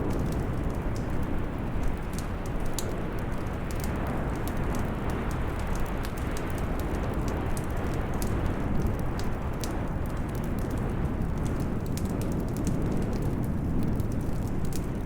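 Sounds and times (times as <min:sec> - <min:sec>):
fire snapping and popping: 0:00.0 - 0:15.0.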